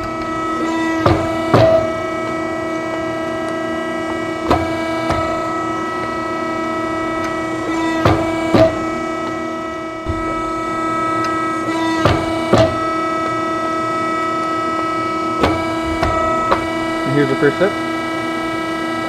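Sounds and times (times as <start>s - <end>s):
hydraulic press humming: 0.0s - 19.0s.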